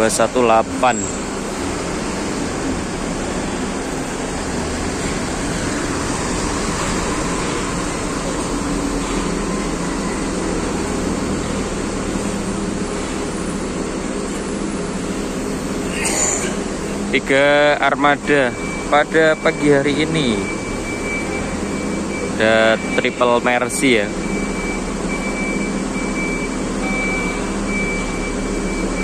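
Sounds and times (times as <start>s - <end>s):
bus diesel engine running: 0.0s - 29.0s.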